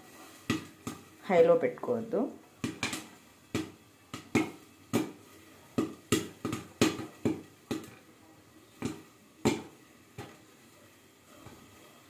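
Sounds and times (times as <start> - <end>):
popcorn popping under lid: 0.2 - 10.6.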